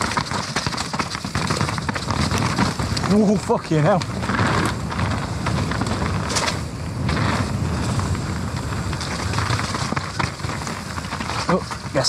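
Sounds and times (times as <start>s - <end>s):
bike clattering on rough ground: 0.0s - 12.0s
wind rushing on microphone: 0.0s - 12.0s.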